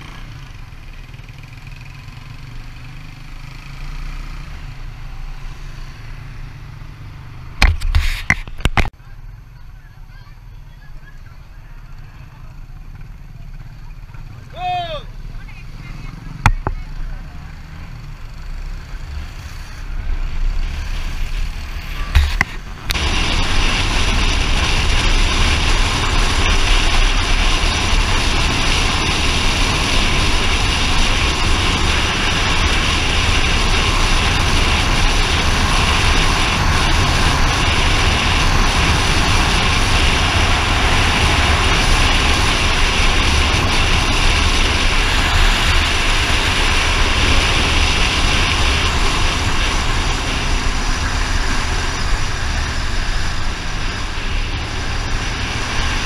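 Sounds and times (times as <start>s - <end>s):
vehicle engine and wind rush: 0.0s - 56.0s.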